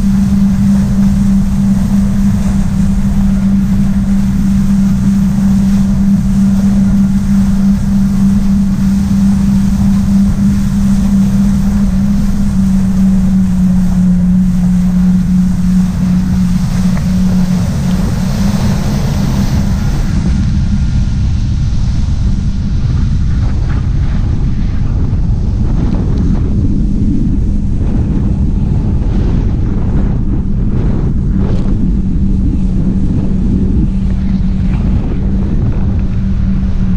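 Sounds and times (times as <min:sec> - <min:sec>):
jet ski engine humming: 0:00.0 - 0:36.9
water noise: 0:00.0 - 0:36.9
wind buffeting microphone: 0:00.0 - 0:36.9.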